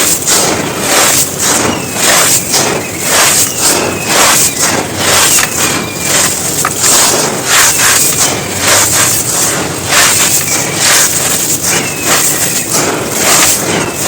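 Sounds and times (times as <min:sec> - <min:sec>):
dry earth clods crunching: 0:00.0 - 0:14.0.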